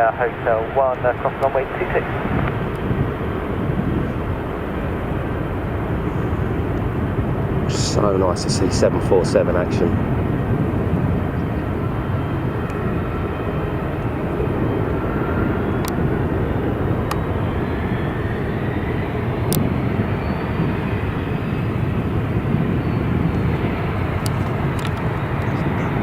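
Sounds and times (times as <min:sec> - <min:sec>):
jet engines roaring at takeoff: 0:00.0 - 0:26.0.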